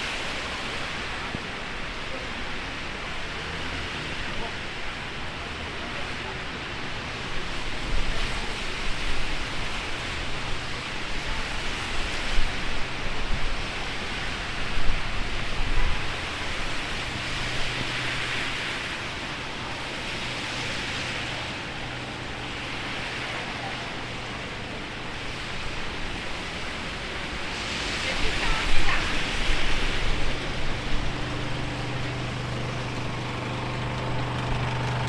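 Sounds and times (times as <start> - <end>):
heavy rain: 0.0 - 35.0.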